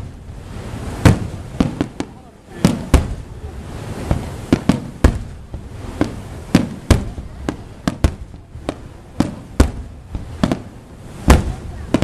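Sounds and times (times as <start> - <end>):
fireworks bangs with echo: 0.0 - 12.0.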